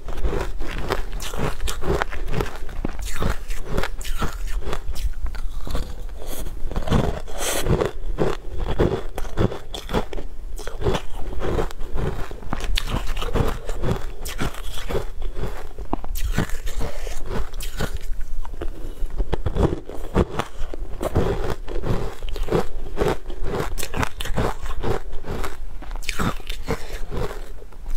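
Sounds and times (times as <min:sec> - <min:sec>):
moist crunchy chewing: 0:00.0 - 0:27.9.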